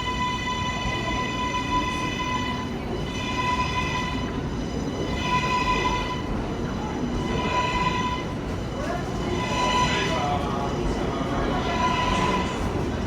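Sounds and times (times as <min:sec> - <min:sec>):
low train rumble: 0:00.0 - 0:13.0.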